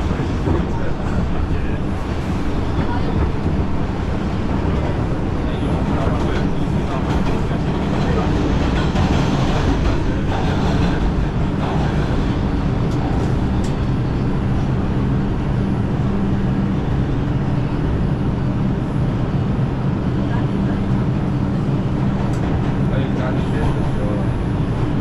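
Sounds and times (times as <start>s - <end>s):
subway train running: 0.0s - 25.0s.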